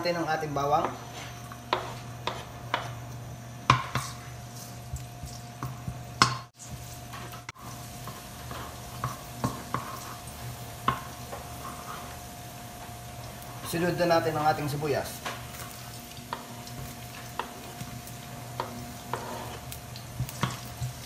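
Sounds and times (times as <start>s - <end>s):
garlic sizzling in hot oil: 0.0s - 21.0s.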